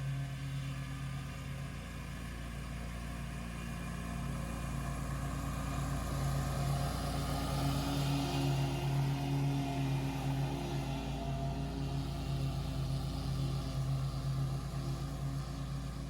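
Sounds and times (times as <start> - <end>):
mower engine running: 0.0 - 16.0.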